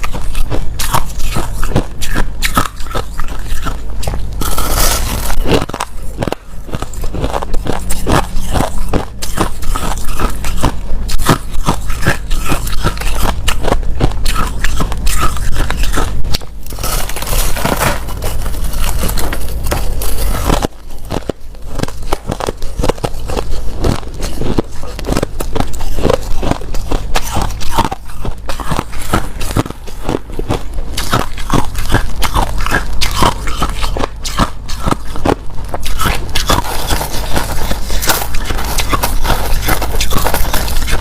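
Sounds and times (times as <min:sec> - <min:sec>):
crunching ice chewing: 0:00.0 - 0:41.0.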